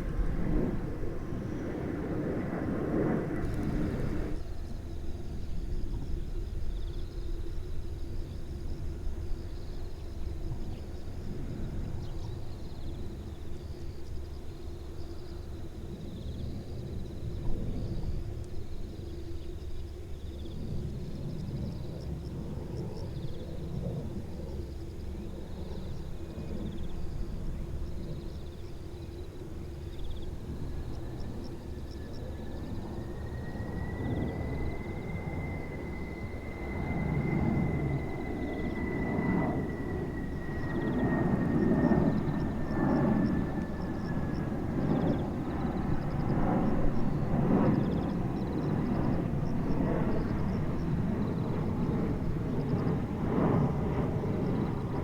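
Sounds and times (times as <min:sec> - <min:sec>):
distant jet airliner rumble: 0:00.0 - 0:55.0
faint constant hum: 0:00.0 - 0:55.0
insects trilling: 0:03.4 - 0:55.0.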